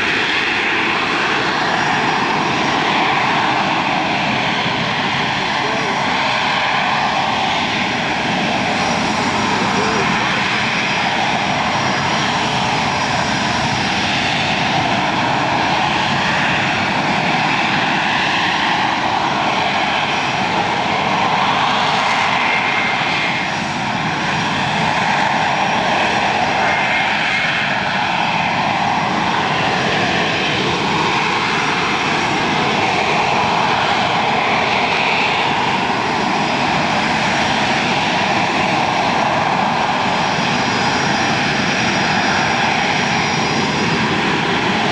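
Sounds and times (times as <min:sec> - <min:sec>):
jet engine roar: 0:00.0 - 0:44.9.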